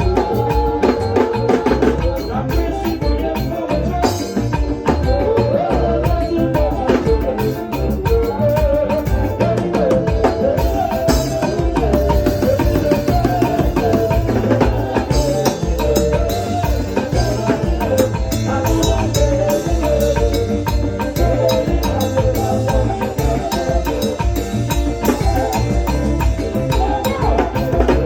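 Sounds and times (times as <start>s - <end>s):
drums and percussion beat: 0.0s - 28.0s
live band playing upbeat music: 0.0s - 28.0s.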